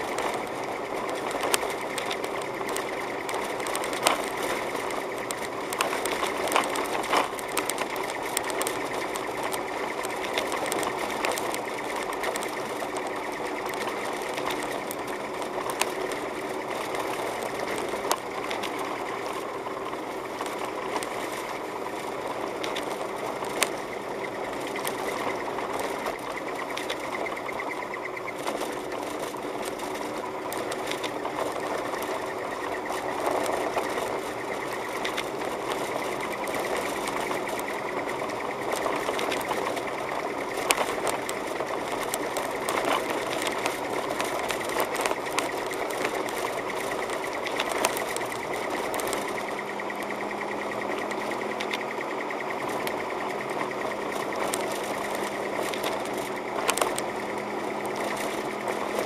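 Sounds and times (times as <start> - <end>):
car engine running: 0.0 - 59.0
fast clicking rattle: 0.0 - 59.0
tyre noise on packed snow: 0.0 - 59.0.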